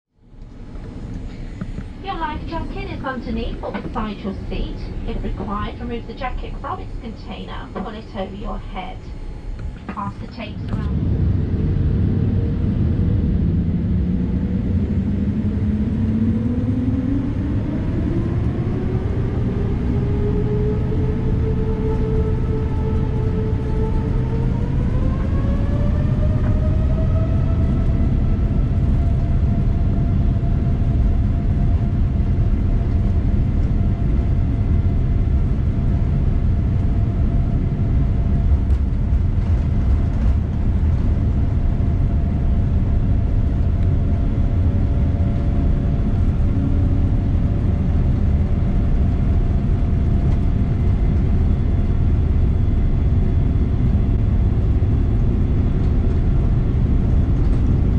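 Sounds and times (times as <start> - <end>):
deep cabin rumble: 0.1 - 57.9
jet engine whine: 0.2 - 57.9.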